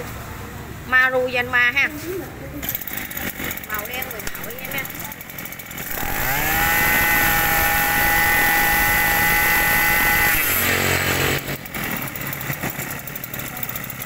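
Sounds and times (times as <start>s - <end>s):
brush cutter engine revving: 2.6s - 14.0s.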